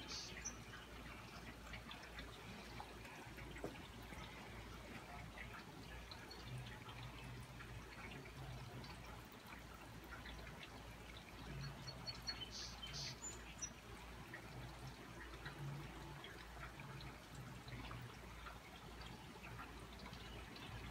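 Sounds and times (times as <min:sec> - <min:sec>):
rainwater dripping and trickling: 0:00.0 - 0:20.9.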